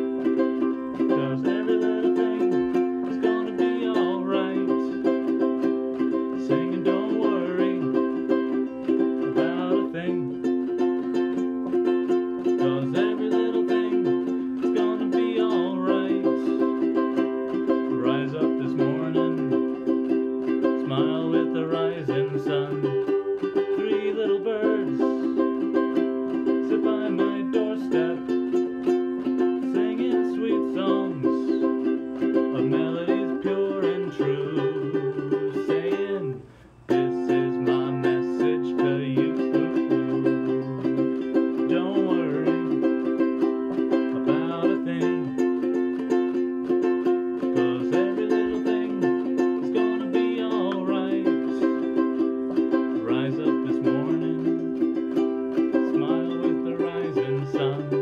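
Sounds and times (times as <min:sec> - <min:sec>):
man singing: 0:00.0 - 0:58.0
ukulele strumming: 0:00.0 - 0:58.0.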